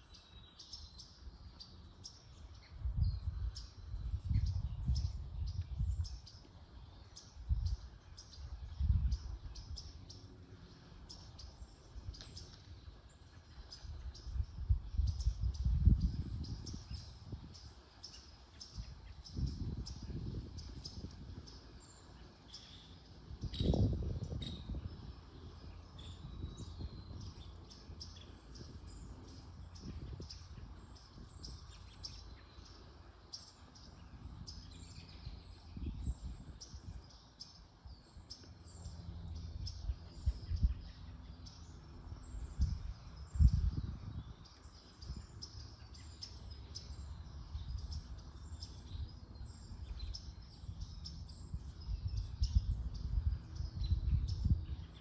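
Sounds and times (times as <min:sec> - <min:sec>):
small birds chirping: 0:00.0 - 0:55.0
wind rumble on microphone: 0:00.0 - 0:55.0.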